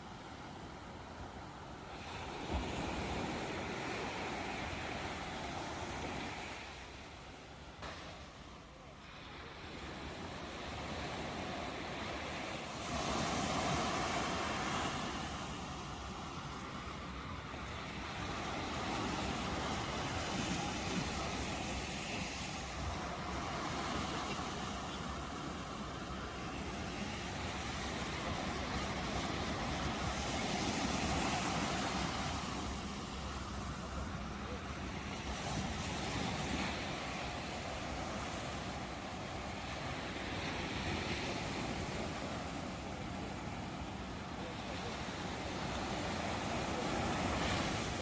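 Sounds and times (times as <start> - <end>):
ocean waves washing in: 0.0 - 48.0.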